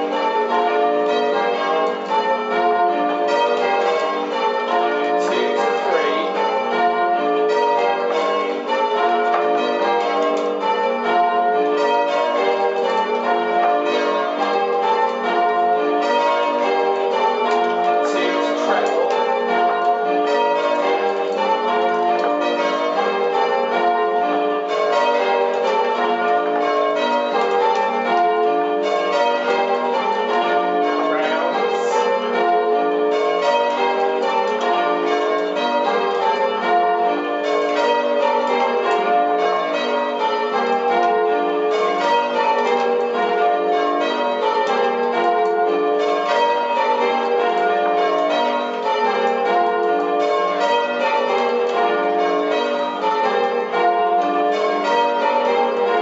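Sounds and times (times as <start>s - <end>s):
church bells change ringing: 0.0s - 56.0s.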